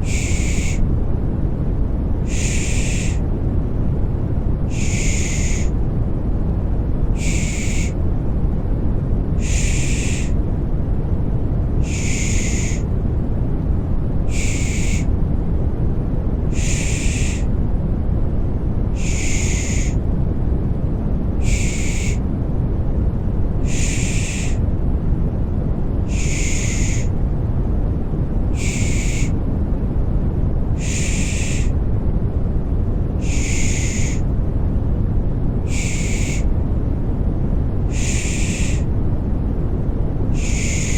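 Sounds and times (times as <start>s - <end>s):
deep white noise rumble: 0.0s - 40.9s.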